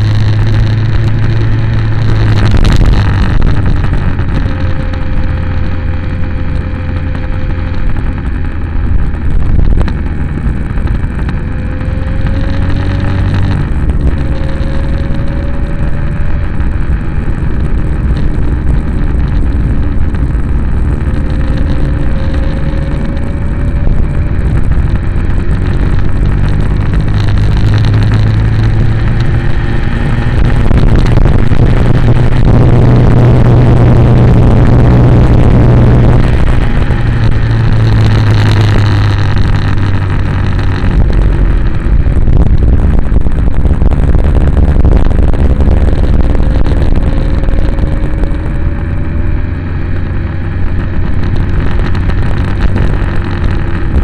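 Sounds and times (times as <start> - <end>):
faint rising whine: 0.0 - 54.0
wind and road noise: 0.0 - 54.0.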